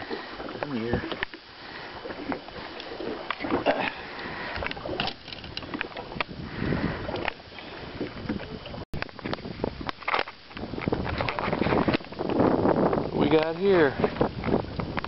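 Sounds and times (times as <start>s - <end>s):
knocks and clicks in a boat: 0.0s - 1.4s, 2.0s - 15.0s
low rumble of wind and water: 0.0s - 15.0s.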